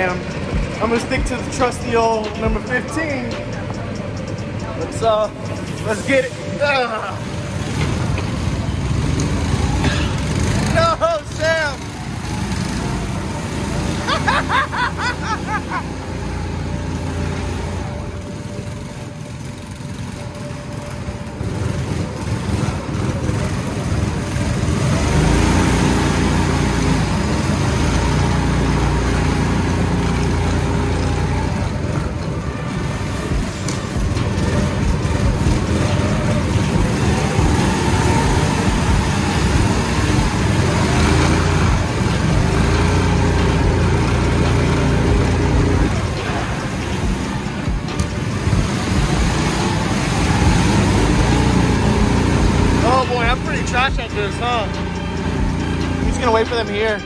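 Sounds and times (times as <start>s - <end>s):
kart sliding with rushing noise: 7.2s - 57.0s.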